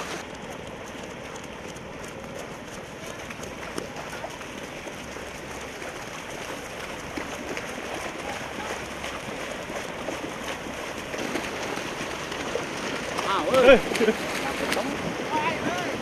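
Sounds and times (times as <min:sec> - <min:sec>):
runners splashing through water: 0:00.0 - 0:16.0.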